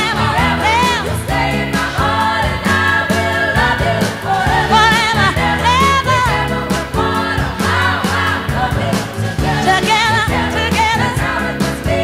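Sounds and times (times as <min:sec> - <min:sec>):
music with steady beat: 0:00.0 - 0:12.0
person singing with vibrato: 0:00.0 - 0:12.0.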